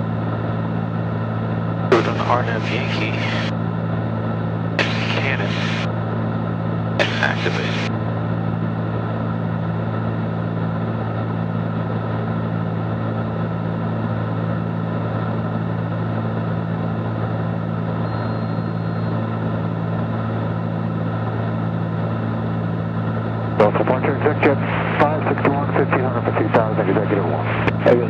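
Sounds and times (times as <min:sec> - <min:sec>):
airplane engines droning in cabin: 0:00.0 - 0:28.0.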